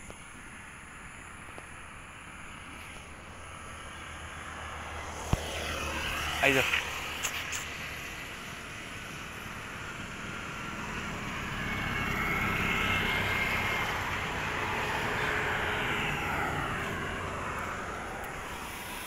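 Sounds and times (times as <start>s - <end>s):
vehicle passing by: 3.4s - 19.0s.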